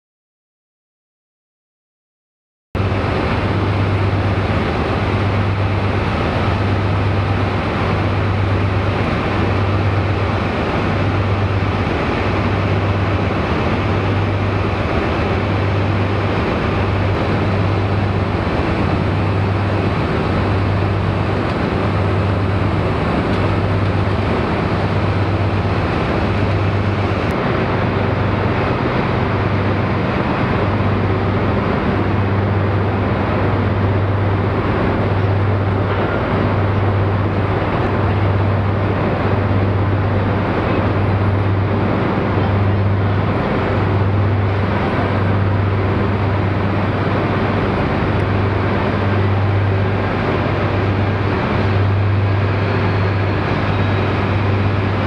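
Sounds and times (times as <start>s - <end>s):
diesel engine idling: 2.8s - 55.0s.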